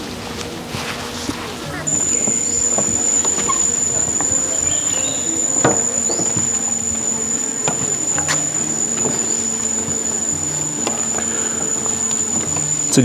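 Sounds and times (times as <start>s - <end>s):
insects droning: 1.8s - 13.0s.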